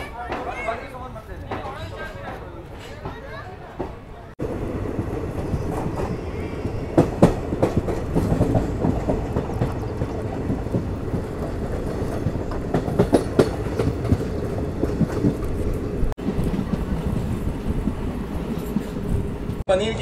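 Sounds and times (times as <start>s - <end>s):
train rumble: 0.0s - 19.8s
train wheels clattering over rails: 1.4s - 19.6s.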